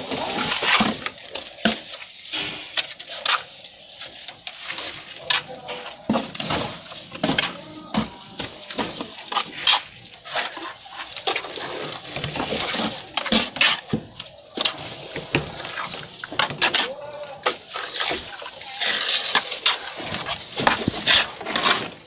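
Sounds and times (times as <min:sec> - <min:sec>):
trowels scraping and slapping mortar: 0:00.0 - 0:22.0.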